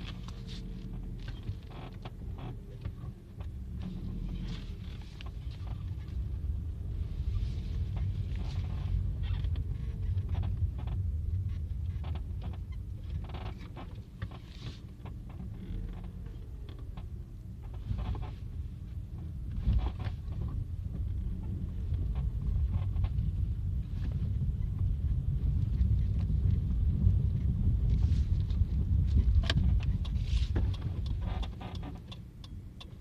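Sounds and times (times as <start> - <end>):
car creaking: 0.0 - 33.0
steady low rumble: 0.0 - 33.0.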